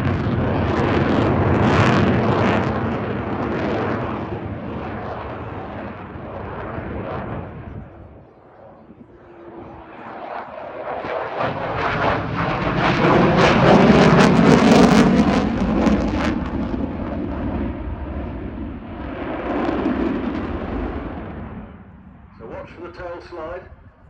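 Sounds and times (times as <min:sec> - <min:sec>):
fighter jet flying past: 0:00.0 - 0:23.9.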